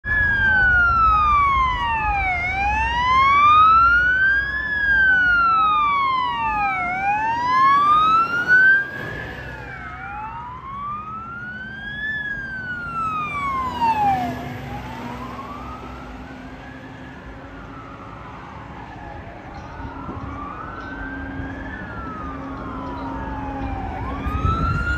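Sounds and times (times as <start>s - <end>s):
fire engine passing: 0.0s - 24.9s
fire engine sirens wailing: 0.0s - 24.9s.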